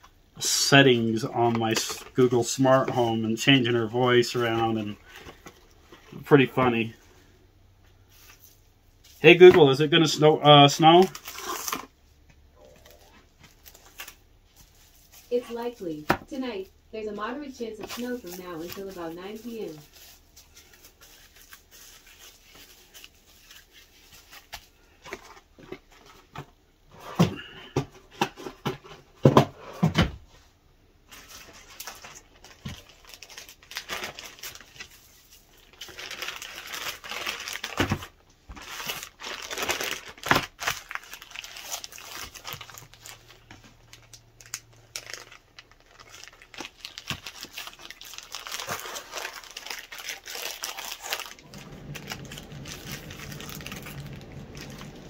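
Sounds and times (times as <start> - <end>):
plastic packaging crinkling: 1.0 - 7.0, 10.8 - 12.0, 12.6 - 16.6, 17.2 - 26.4, 31.1 - 55.0.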